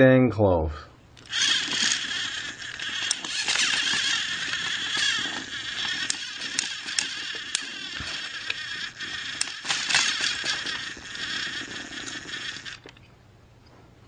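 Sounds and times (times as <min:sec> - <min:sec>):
toy train motors whirring: 0:01.2 - 0:13.0.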